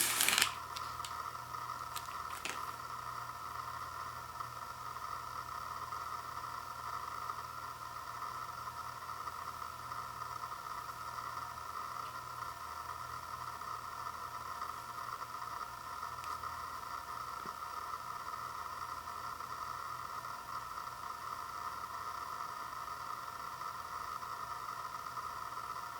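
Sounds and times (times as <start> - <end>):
steady hum and hiss: 0.0 - 25.9.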